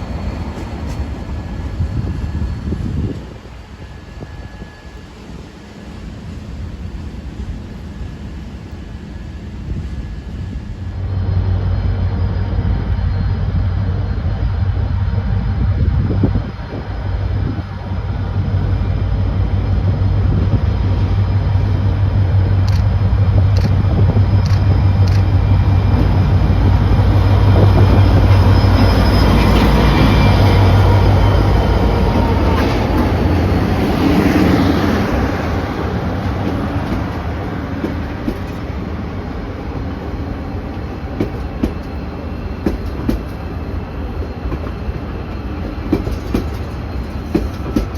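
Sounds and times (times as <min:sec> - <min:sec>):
diesel locomotive engine humming: 0:00.0 - 0:47.9.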